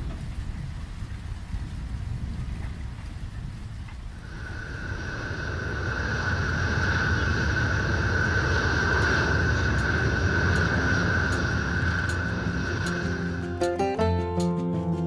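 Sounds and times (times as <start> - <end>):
jet engine whine and rumble: 0.0 - 13.9.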